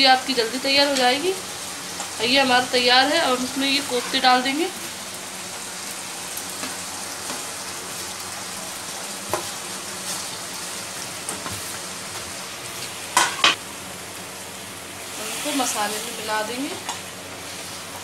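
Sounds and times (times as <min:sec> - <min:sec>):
gravy sizzling in a pan: 0:00.0 - 0:18.0.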